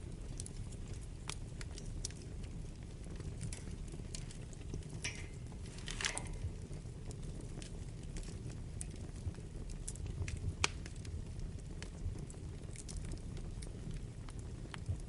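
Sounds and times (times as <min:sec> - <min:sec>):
burning wood crackling: 0:00.0 - 0:15.0
fire flames rumbling: 0:00.0 - 0:15.0.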